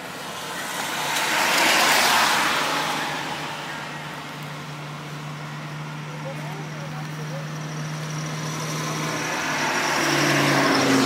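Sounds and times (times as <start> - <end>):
road vehicle passing by: 0.0 - 11.0.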